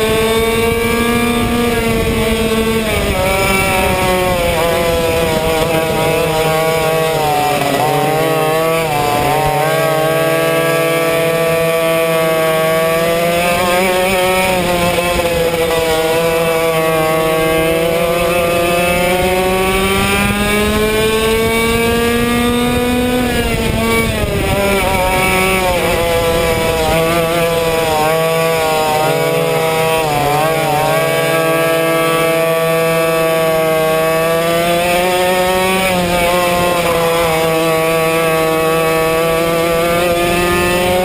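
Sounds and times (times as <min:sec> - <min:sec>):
kart engine running: 0:00.0 - 0:41.0.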